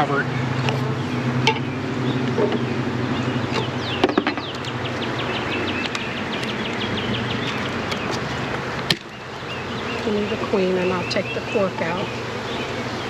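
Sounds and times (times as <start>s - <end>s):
bees buzzing: 0.0s - 13.0s
bird singing falling notes: 0.2s - 13.0s.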